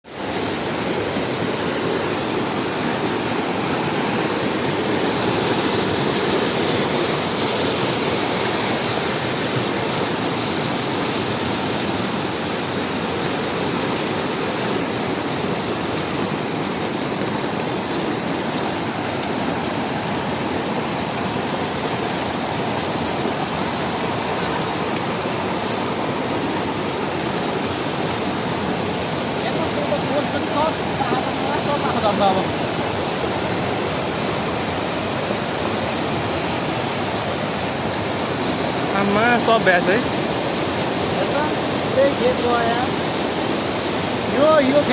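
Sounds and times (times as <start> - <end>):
river rushing: 0.0 - 44.9.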